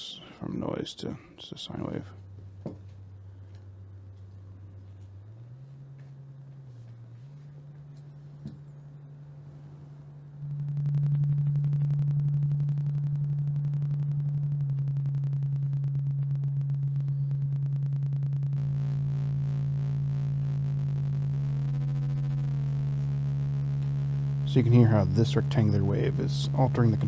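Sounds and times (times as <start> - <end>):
pulsing low synthesizer tone: 1.7 - 27.0.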